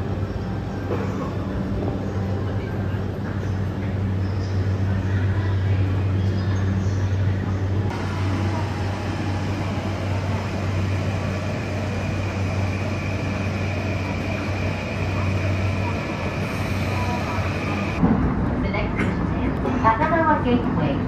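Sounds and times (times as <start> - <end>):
constant low hum: 0.0 - 21.0
train carriage running noise: 0.0 - 21.0.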